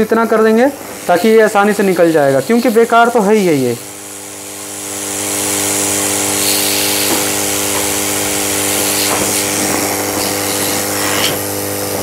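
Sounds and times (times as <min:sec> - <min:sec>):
hot air gun blowing: 0:00.4 - 0:12.0.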